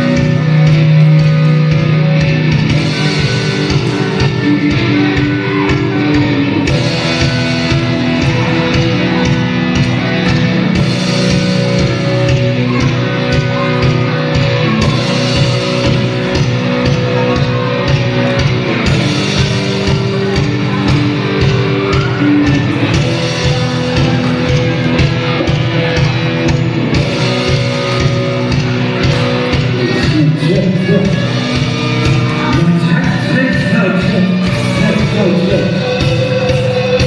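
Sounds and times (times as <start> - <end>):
drum beat: 0.0 - 37.0
electric guitar: 0.0 - 37.0.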